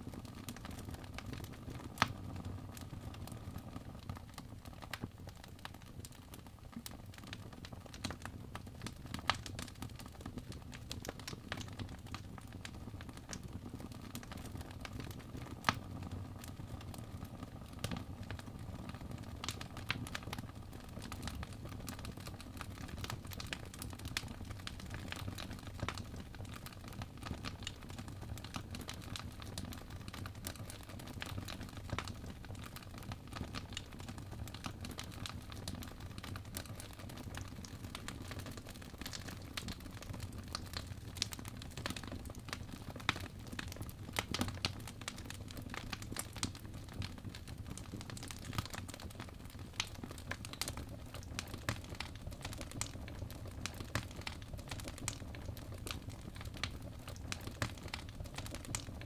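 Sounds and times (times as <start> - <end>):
fire popping and snapping: 0.0 - 59.0.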